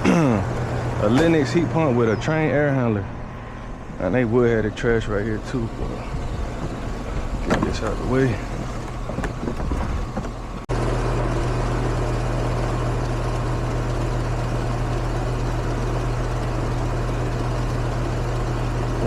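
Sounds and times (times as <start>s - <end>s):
compressor hum: 0.0s - 19.0s
condenser fan rushing: 0.0s - 19.0s.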